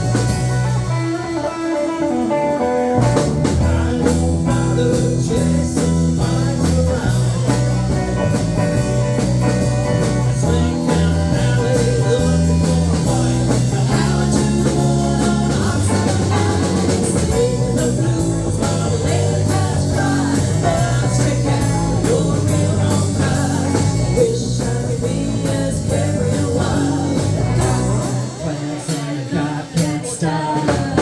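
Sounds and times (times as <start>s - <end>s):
bass line: 0.0s - 31.0s
drum kit: 0.0s - 31.0s
electric guitar: 0.0s - 31.0s.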